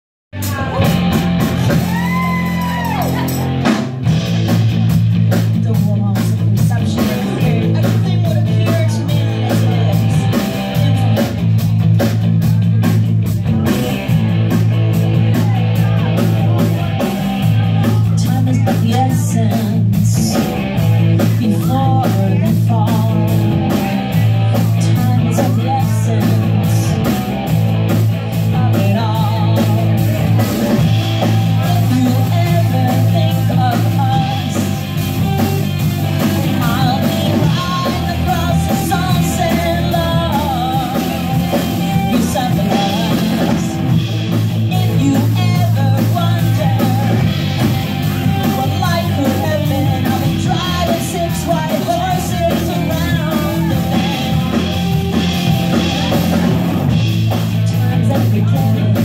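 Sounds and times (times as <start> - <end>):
rock song with guitar and bass: 0.3 - 59.0
person singing: 0.4 - 3.6, 5.3 - 59.0
steady drumbeat: 0.4 - 59.0.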